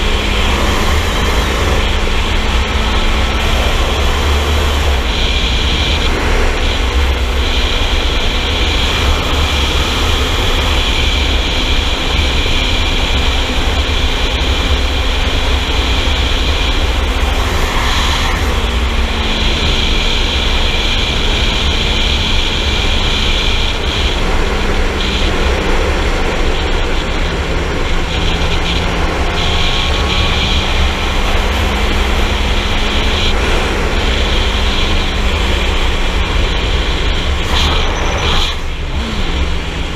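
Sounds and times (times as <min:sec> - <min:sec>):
motorcycle engine drone: 0:00.0 - 0:39.9
wind rumble on microphone: 0:00.0 - 0:39.9.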